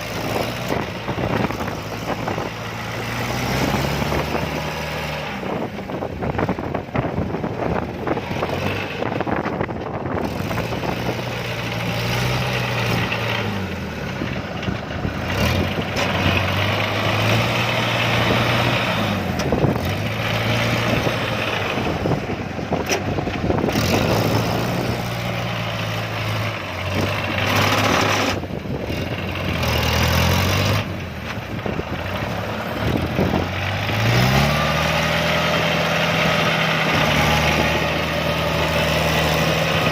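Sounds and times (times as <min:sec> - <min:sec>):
diesel engine revving under load: 0:00.0 - 0:39.9.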